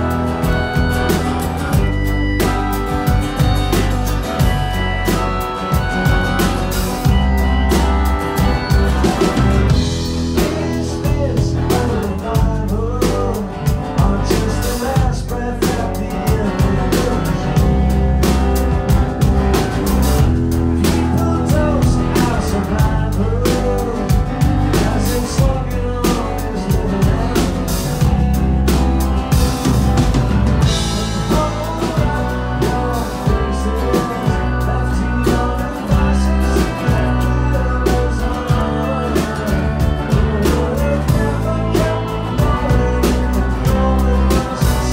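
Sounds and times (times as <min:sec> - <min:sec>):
bass guitar: 0:00.0 - 0:44.9
drum kit beat: 0:00.0 - 0:44.9
strummed acoustic guitar: 0:00.0 - 0:44.9.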